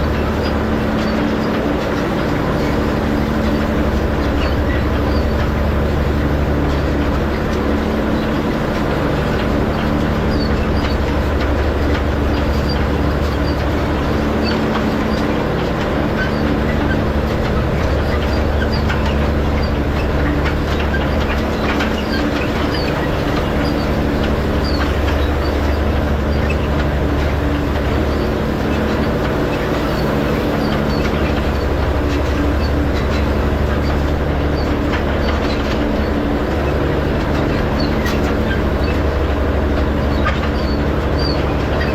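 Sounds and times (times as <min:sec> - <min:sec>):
hay rake clatter: 0:00.0 - 0:41.9
tractor engine running: 0:00.0 - 0:41.9.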